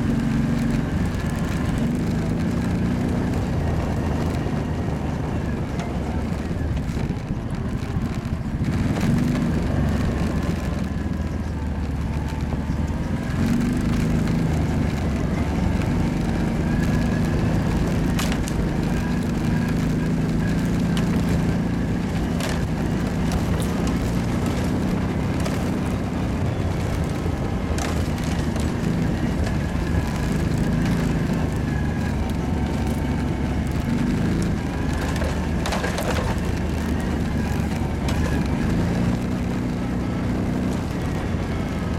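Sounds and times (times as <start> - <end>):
quad engine running: 0.0 - 41.9.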